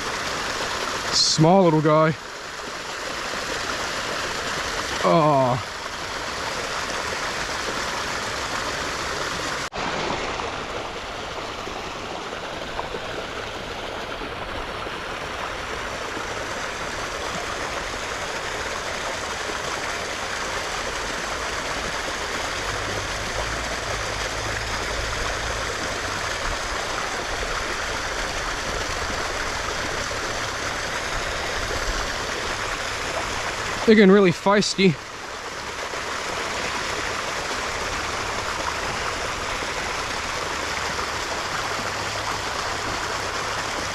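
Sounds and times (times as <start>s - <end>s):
creek water running and splashing: 0.0s - 43.9s.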